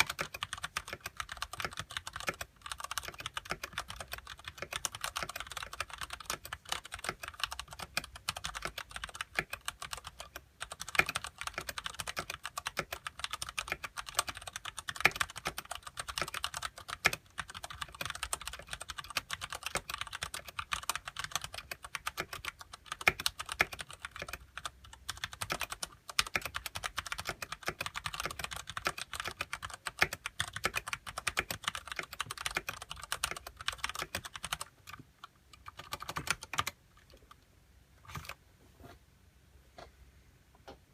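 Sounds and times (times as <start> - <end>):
mechanical keyboard typing: 0.0 - 37.4.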